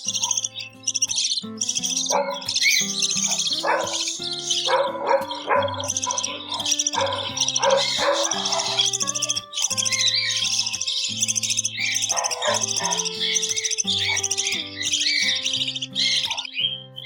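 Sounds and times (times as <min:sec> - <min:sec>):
budgies chattering: 0:00.0 - 0:17.0
music of held notes: 0:00.0 - 0:17.0.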